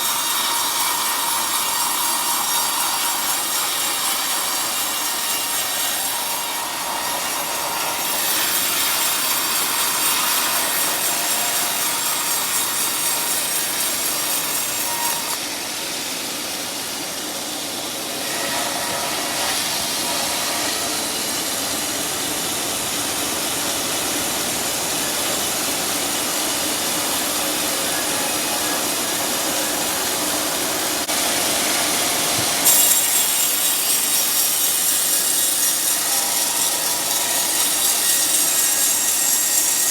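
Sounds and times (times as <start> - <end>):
saw cutting log: 0.0 - 15.4, 16.4 - 39.9.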